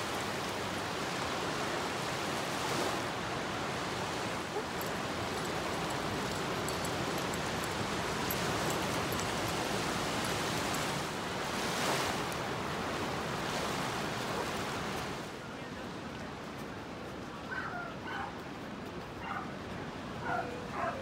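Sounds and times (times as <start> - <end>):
ocean waves on sandy beach: 0.0 - 21.0.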